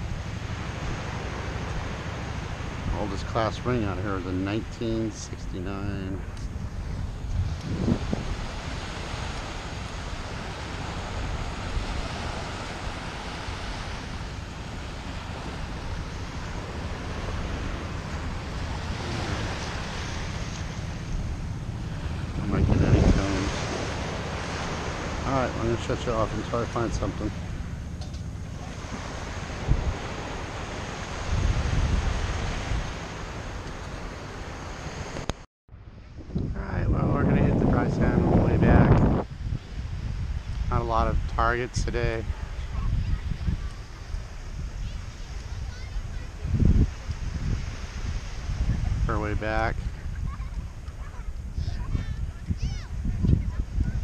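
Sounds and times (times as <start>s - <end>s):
surf washing up beach: 0.0s - 35.4s, 36.0s - 54.0s
wind rumbling on microphone: 0.0s - 54.0s.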